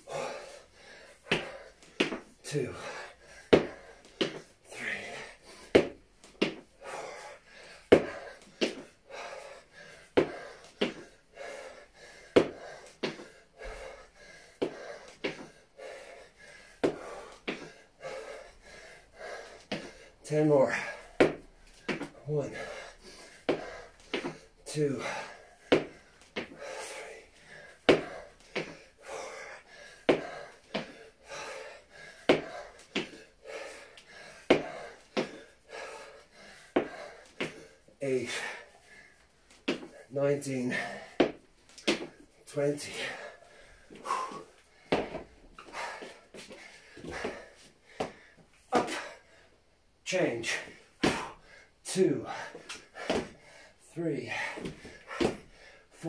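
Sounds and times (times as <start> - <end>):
man breathing hard: 0.0 - 56.0.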